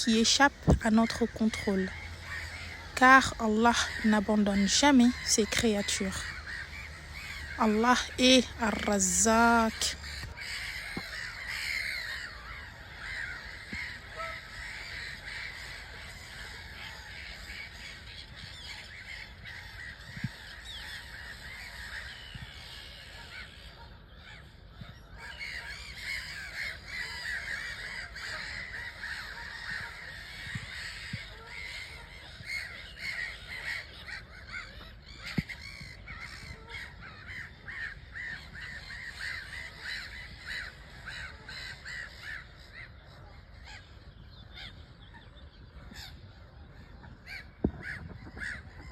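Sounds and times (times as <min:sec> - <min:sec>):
flock of birds calling: 0:00.0 - 0:48.9.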